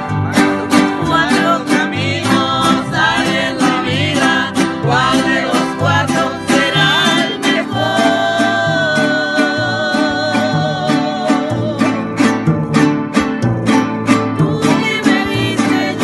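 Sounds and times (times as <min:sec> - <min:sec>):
acoustic guitars strummed: 0:00.0 - 0:16.0
bass notes: 0:00.0 - 0:16.0
voices singing folk song: 0:00.0 - 0:16.0.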